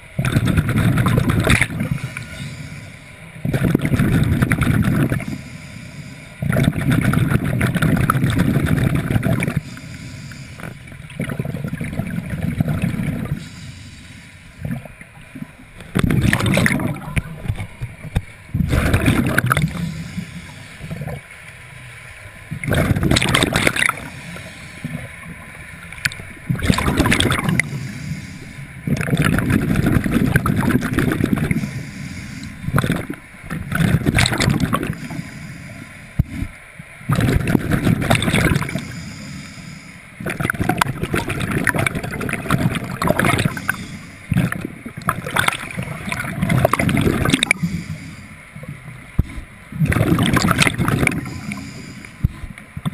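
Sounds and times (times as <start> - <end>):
exhaled bubbles gurgling: 0.0 - 13.9, 14.5 - 21.3, 22.5 - 35.4, 36.2 - 39.4, 40.2 - 52.9
diver breathing through regulator: 0.2 - 14.9, 18.4 - 21.3, 22.6 - 25.3, 26.6 - 52.6.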